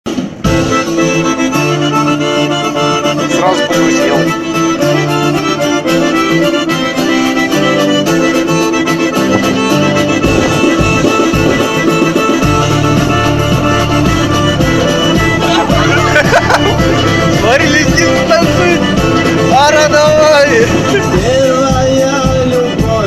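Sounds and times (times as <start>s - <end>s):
accordion dance music: 0.1s - 23.0s.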